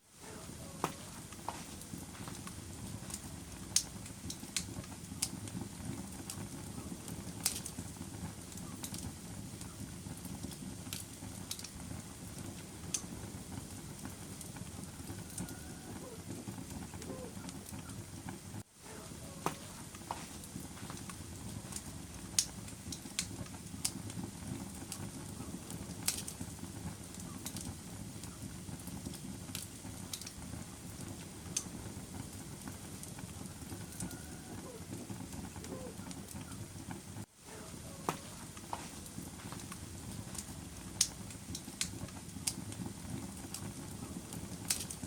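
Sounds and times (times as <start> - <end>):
wood fire crackling and popping: 0.2 - 45.0.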